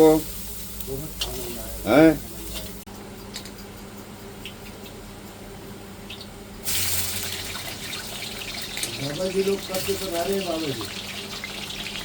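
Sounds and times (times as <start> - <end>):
quiet frying: 0.0 - 12.0.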